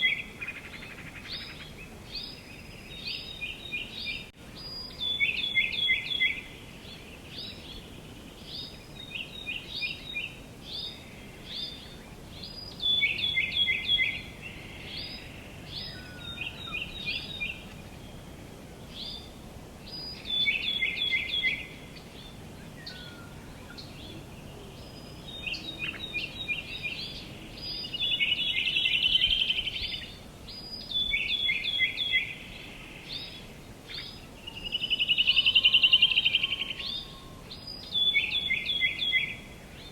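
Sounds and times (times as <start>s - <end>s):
faint outdoor hiss: 0.0s - 39.9s
songbirds chirping: 0.0s - 39.9s.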